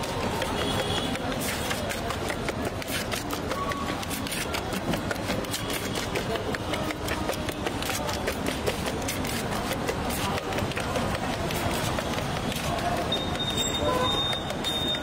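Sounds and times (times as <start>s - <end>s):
small clicks and clatters: 0.0s - 15.0s.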